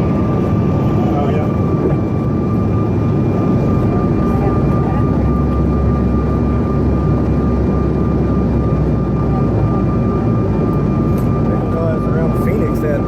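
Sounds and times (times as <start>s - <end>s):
jet cabin rumble: 0.0s - 13.0s.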